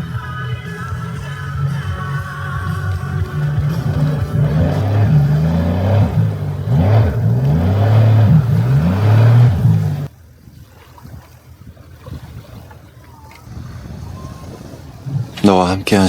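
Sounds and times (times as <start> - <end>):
jet ski engine revving: 0.0 - 10.1, 12.7 - 16.0
faint wind and water: 0.0 - 16.0.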